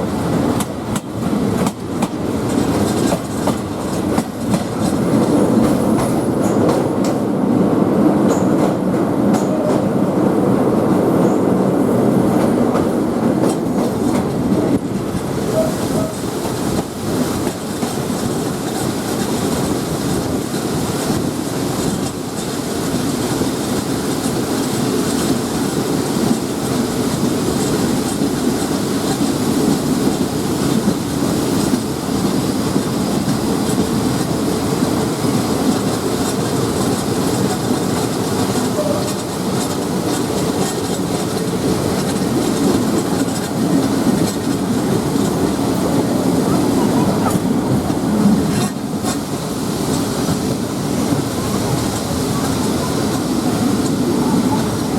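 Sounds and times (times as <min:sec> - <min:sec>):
clickety-clack of rails: 0:00.0 - 0:54.9
train wheels rumbling: 0:00.0 - 0:54.9.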